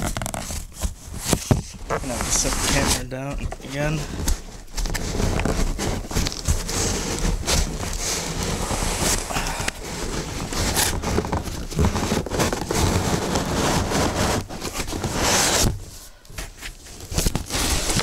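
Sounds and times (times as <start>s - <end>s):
packaging scraping and crinkling: 0.0s - 18.0s.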